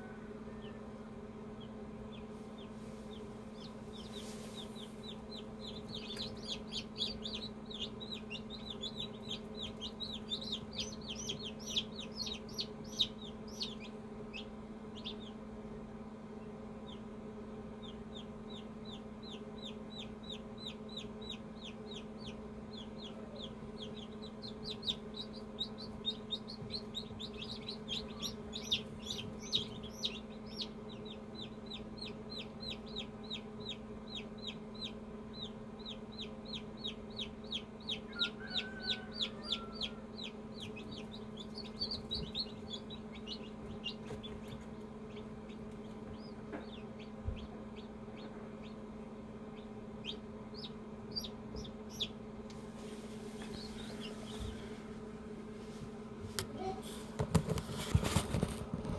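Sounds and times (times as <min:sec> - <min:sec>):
chicks peeping: 0:00.0 - 0:55.6, 0:56.6 - 0:58.9
steady low hum: 0:00.0 - 0:58.9.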